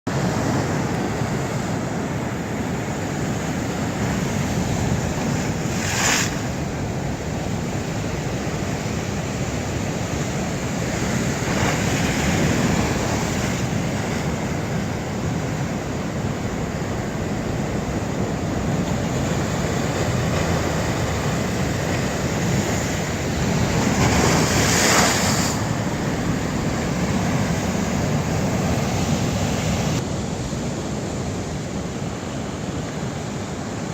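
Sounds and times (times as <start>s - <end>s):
sea surf washing ashore: 0.1s - 33.9s
waves breaking: 0.1s - 33.9s.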